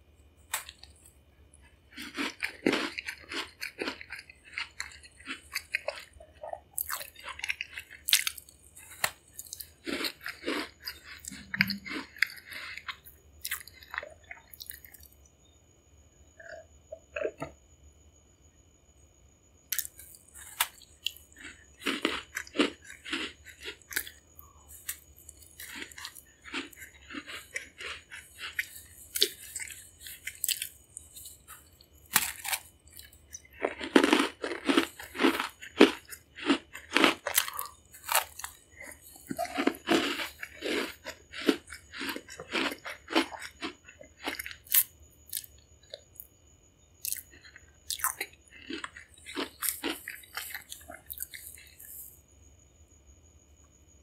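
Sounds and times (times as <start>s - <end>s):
person chewing crunchy bread: 0.5s - 15.6s, 16.2s - 17.6s, 19.7s - 46.4s, 47.0s - 52.2s.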